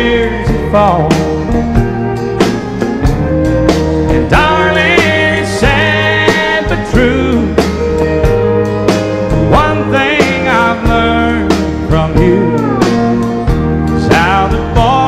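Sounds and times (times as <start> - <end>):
drum beats: 0.0 - 15.0
sliding lead melody: 0.0 - 15.0
sustained bass: 0.0 - 15.0.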